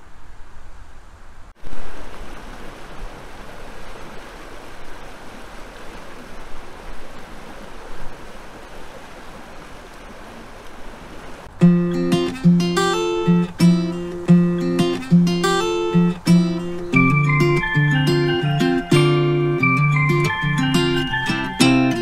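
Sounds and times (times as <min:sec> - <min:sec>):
churning water rushing: 0:01.6 - 0:22.0.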